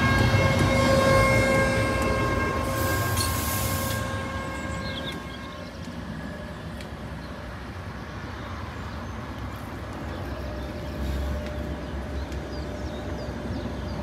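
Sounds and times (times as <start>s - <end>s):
tram rumbling: 0.0s - 14.0s.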